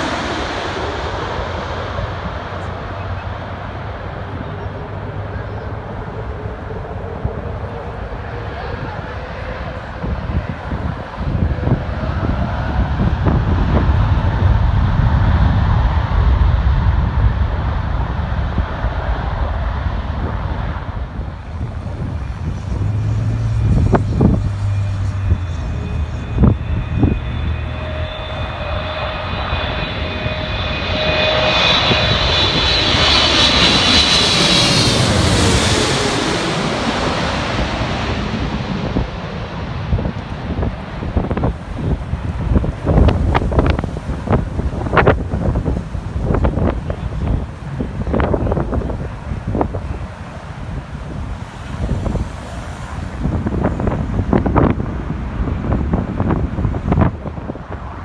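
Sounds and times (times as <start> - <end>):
distant jet rumble on runway: 0.0 - 58.0
jet engine whine overhead: 0.0 - 58.0.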